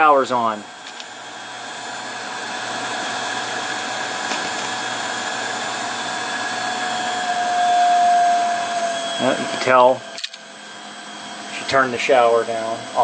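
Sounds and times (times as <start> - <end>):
booster pump whirring: 0.0 - 13.0.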